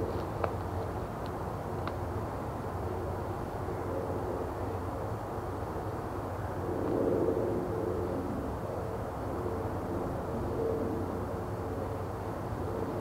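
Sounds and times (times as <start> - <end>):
distant engine hum: 0.0 - 13.0.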